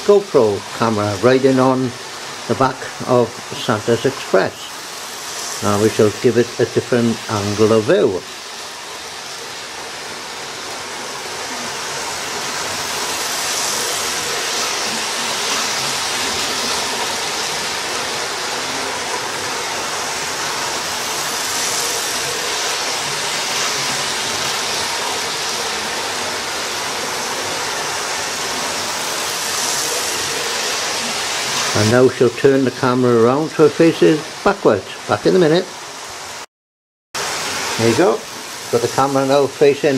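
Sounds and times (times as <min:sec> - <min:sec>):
model trains whirring on track: 0:00.0 - 0:34.5.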